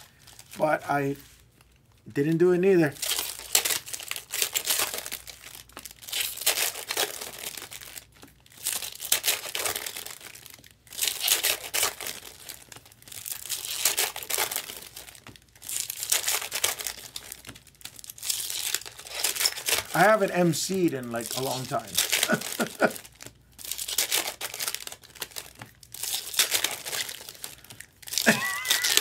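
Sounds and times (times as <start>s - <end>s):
foil wrappers crinkling and tearing: 0.0s - 29.0s.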